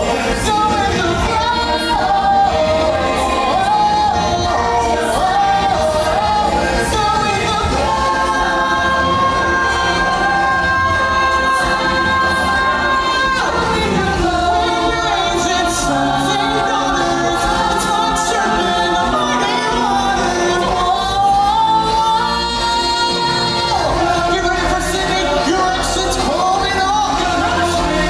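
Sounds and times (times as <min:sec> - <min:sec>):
band accompaniment: 0:00.0 - 0:28.0
choir backing voices: 0:00.0 - 0:28.0
singers holding sliding notes: 0:00.0 - 0:28.0.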